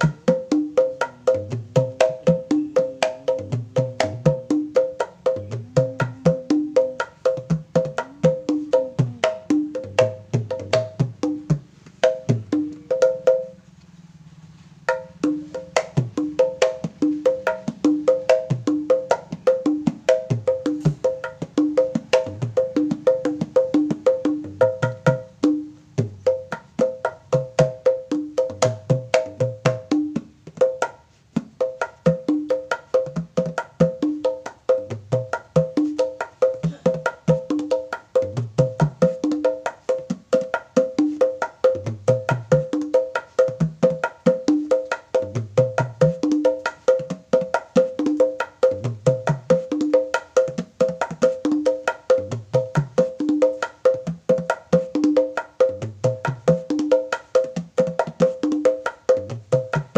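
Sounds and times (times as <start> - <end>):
hand drumming: 0.0 - 13.6, 14.9 - 59.9.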